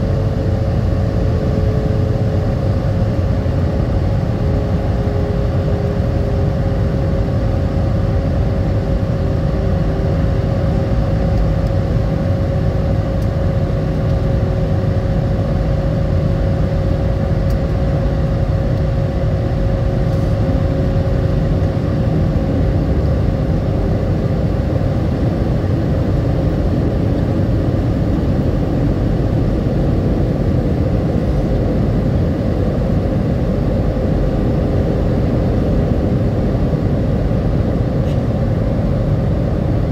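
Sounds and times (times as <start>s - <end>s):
jet engine and airflow rush: 0.0s - 39.9s
steady cabin hums: 0.0s - 39.9s.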